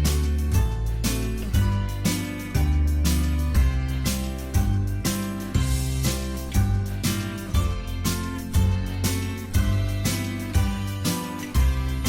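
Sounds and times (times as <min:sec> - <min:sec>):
plucked guitar notes: 0:00.0 - 0:12.0.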